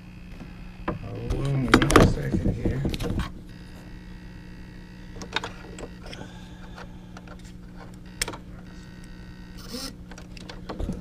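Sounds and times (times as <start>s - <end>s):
servo electric hum: 0.0s - 11.0s.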